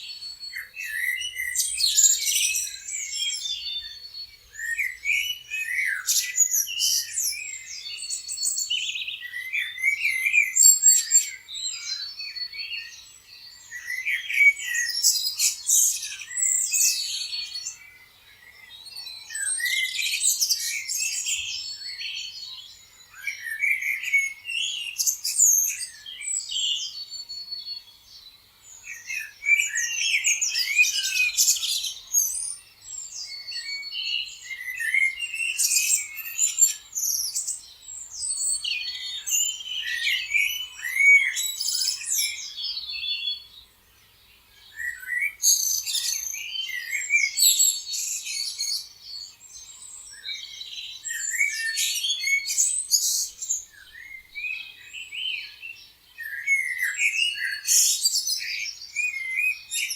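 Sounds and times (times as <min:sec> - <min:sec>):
small birds chirping and trilling: 0:00.0 - 0:59.9.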